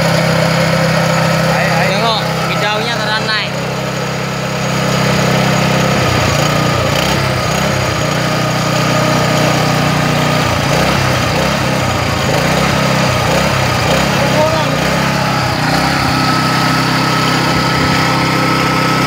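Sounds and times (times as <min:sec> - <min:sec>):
pump machine drone: 0:00.0 - 0:19.0.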